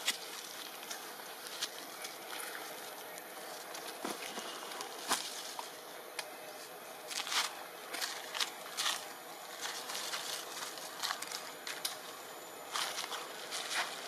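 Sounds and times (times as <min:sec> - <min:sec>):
outdoor background: 0:00.0 - 0:14.0
twigs and leaves crackling: 0:00.0 - 0:14.0.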